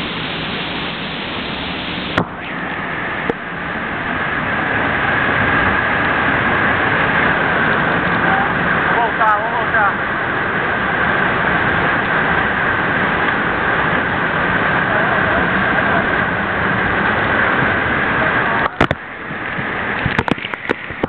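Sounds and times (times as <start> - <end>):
water splashing on camera: 0.0 - 21.0
waterfall rushing: 0.0 - 21.0.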